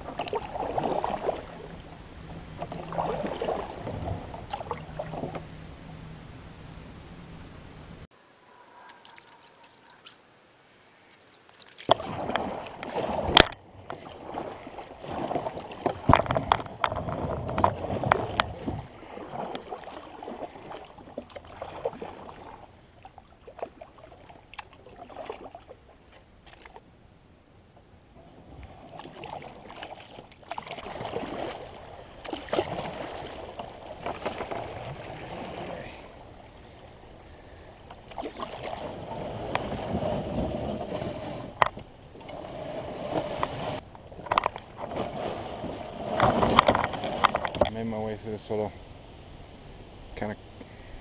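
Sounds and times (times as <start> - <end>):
paddle splashing through water: 0.0 - 5.6, 11.1 - 26.9, 28.2 - 47.8.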